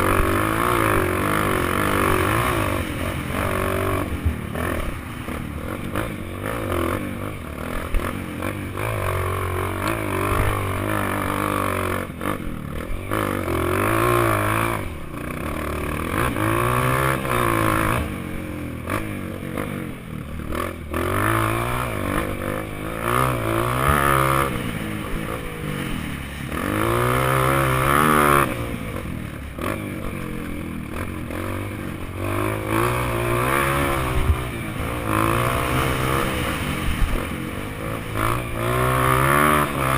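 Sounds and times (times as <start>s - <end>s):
bike rattling: 0.0s - 39.9s
dirt bike engine revving: 0.0s - 39.9s.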